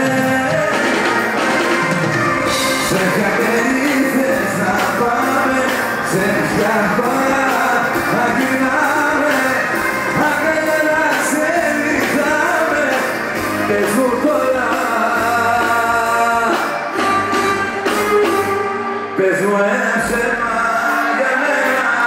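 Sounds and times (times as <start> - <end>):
drums keeping steady beat: 0.0 - 18.9
live band playing pop song: 0.0 - 22.0
person singing: 0.0 - 22.0.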